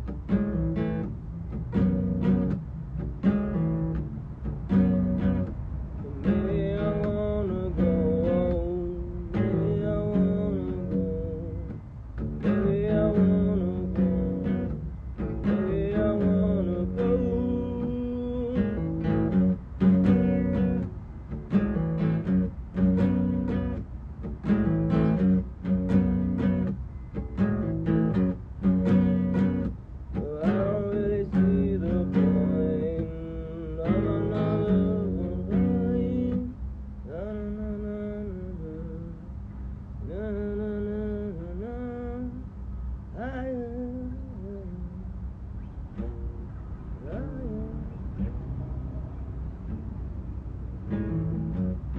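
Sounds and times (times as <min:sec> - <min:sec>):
acoustic guitar strumming: 0:00.0 - 0:39.2, 0:43.2 - 0:48.8, 0:49.5 - 0:51.9
man singing wordlessly: 0:04.6 - 0:26.8, 0:27.4 - 0:39.4, 0:40.0 - 0:45.3, 0:46.0 - 0:49.0.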